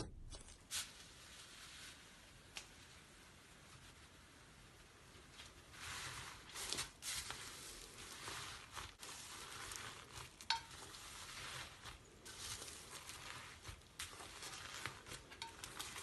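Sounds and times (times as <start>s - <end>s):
crackling rustle of slime kneading: 0.1s - 16.0s.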